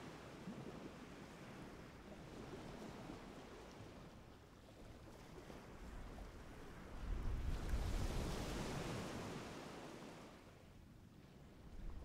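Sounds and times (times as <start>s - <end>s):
waves on the shore: 0.0s - 12.0s
wind: 0.0s - 12.0s.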